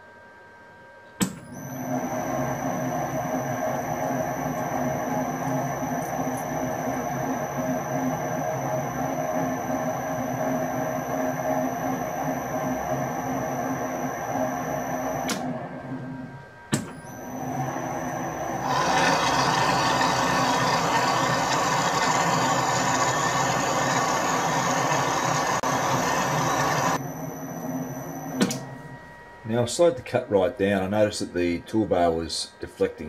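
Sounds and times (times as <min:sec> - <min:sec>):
metal lathe humming: 0:01.6 - 0:29.9.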